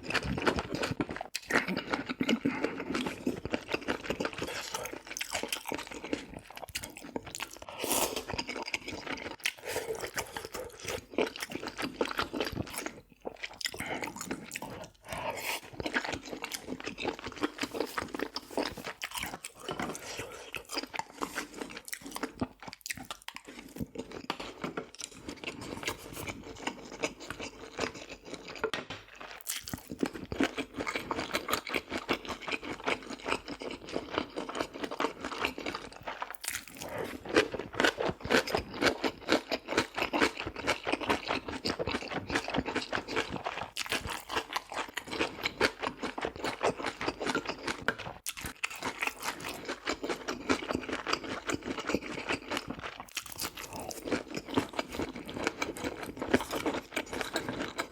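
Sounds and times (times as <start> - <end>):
chewing and crunching food: 0.0 - 57.9.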